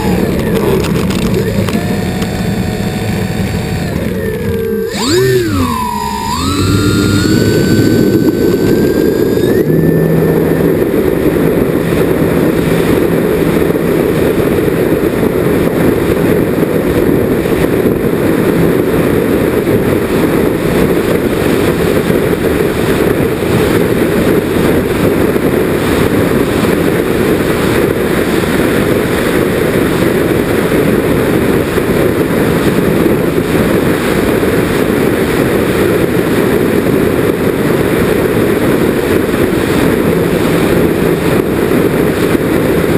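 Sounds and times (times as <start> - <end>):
model airplane motors droning: 0.0 - 42.9
rushing airflow rumble: 0.0 - 42.9.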